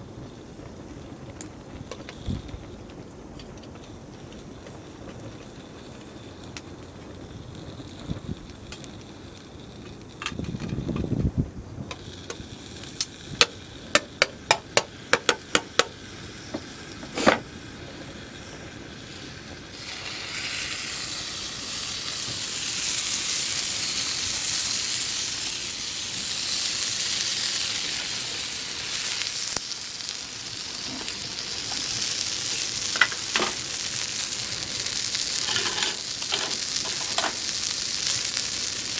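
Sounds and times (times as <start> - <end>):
dumplings sizzling in a pan: 0.0 - 38.9.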